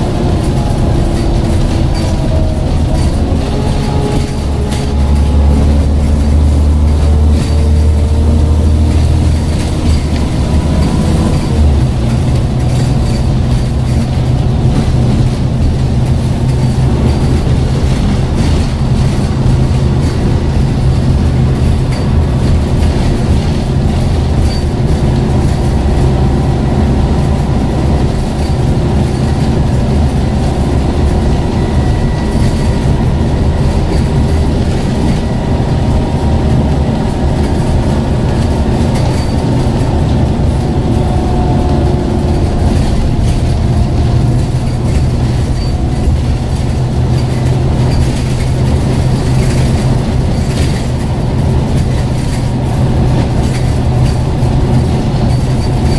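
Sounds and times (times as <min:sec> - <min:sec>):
bus engine drone: 0:00.0 - 0:55.9
road noise: 0:00.0 - 0:55.9.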